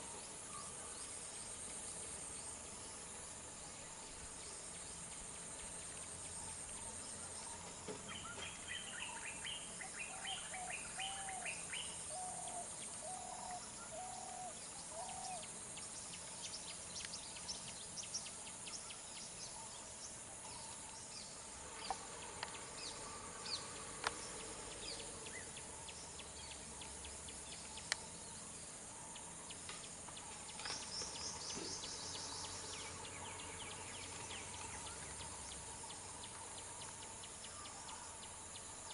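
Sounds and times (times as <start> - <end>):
birds calling: 0.0 - 38.9
insects droning: 0.0 - 38.9.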